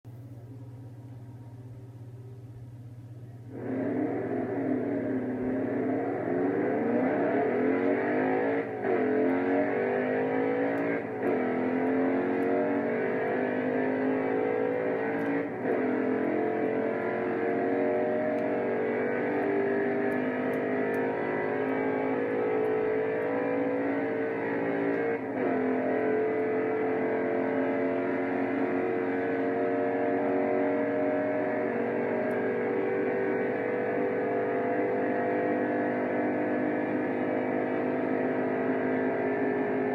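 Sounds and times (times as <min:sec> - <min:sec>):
car engine accelerating hard: 0:03.5 - 0:39.9.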